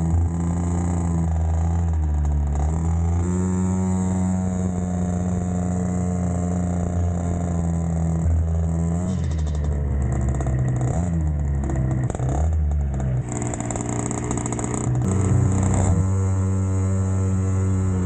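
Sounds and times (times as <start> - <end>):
small motorbike engine revving: 0.0 - 18.0.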